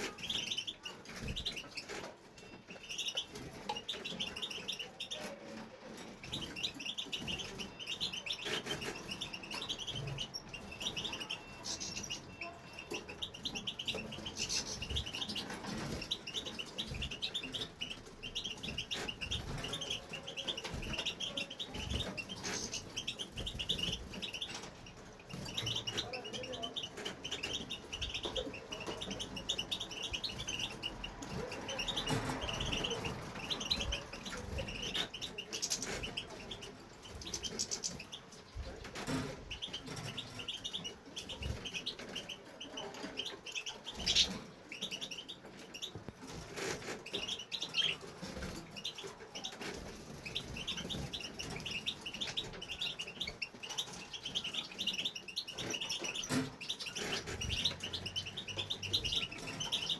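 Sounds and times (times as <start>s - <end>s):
goldfinch twittering song: 0.0s - 59.9s.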